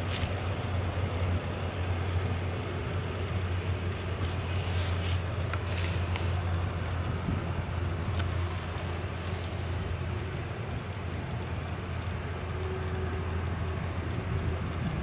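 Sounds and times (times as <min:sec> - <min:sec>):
faint steady whine: 0:00.0 - 0:15.0
jet engines rumbling: 0:00.0 - 0:15.0.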